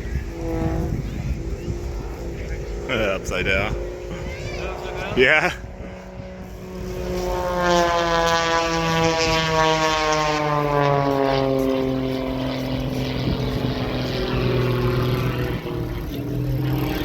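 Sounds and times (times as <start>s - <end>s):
propeller aircraft flying past: 0.0s - 17.0s.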